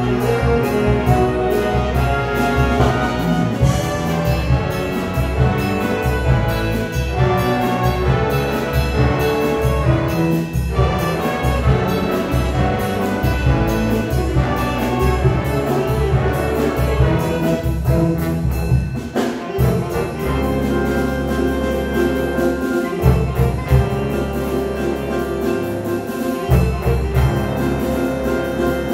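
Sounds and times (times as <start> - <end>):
jazz big band playing: 0.0 - 28.9.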